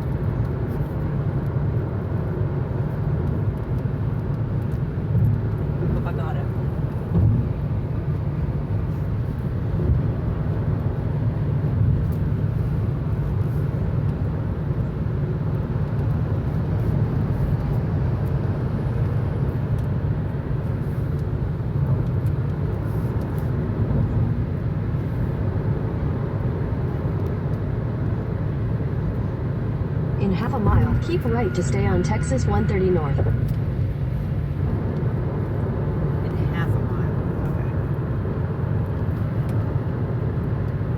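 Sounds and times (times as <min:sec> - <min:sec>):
car cabin road noise: 0:00.0 - 0:40.9.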